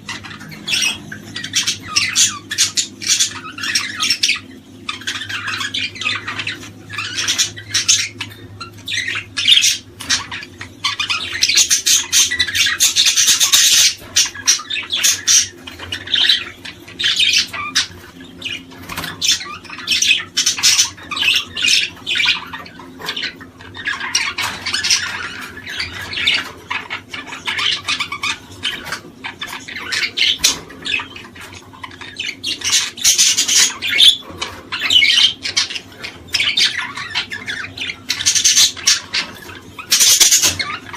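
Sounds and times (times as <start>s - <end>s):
flock of small birds chattering: 0.0s - 40.9s.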